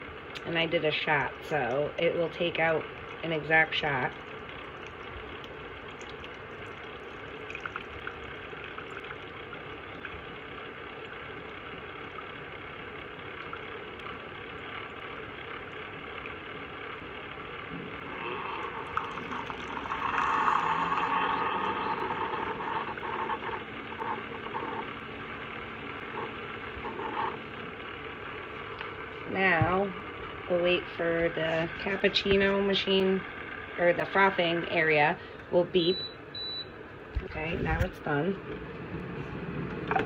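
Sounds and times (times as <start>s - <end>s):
coffee streaming into a cup: 0.0s - 34.3s
coffee machine hiss and hum: 0.0s - 35.4s
steady low hum: 0.0s - 40.0s.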